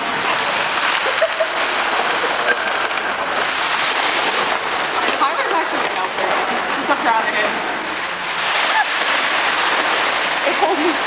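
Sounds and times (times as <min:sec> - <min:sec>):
vinyl tarp rustling and crinkling: 0:00.0 - 0:11.0.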